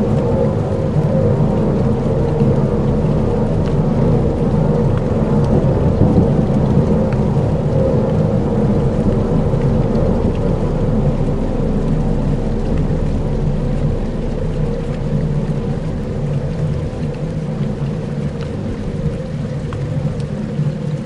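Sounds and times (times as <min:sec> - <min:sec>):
deep rumble: 0:00.0 - 0:21.0
rain-like hiss: 0:00.0 - 0:21.0.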